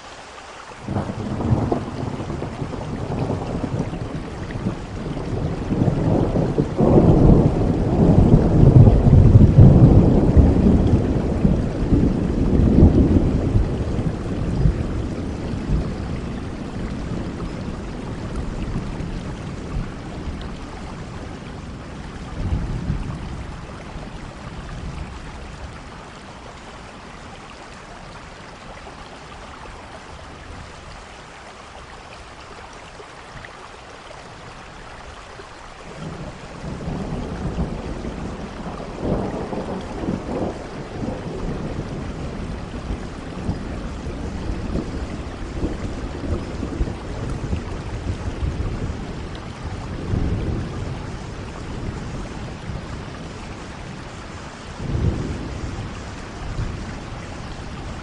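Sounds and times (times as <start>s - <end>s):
steady rain: 0.0s - 58.0s
rolling thunder: 0.8s - 26.1s, 35.9s - 58.0s.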